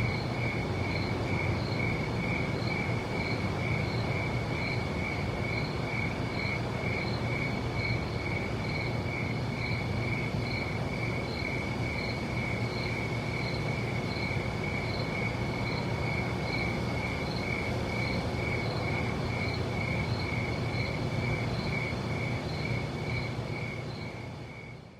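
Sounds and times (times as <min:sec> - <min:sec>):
cricket chirping: 0:00.0 - 0:24.9.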